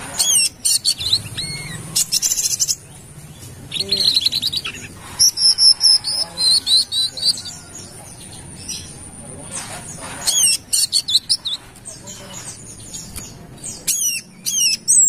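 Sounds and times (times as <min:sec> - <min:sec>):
bird chirping and trilling: 0:00.0 - 0:15.0.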